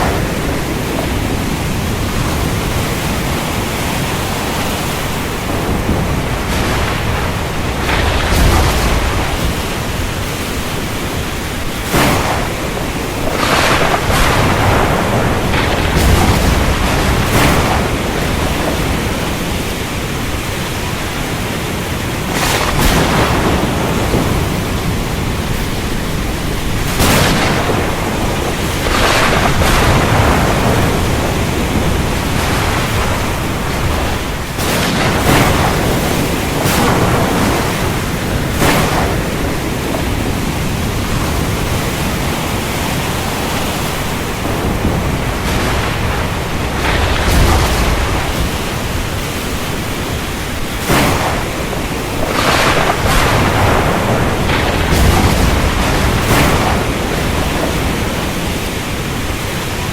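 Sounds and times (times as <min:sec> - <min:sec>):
heavy rain: 0:00.0 - 0:59.9
thunder cracks: 0:00.0 - 0:59.9.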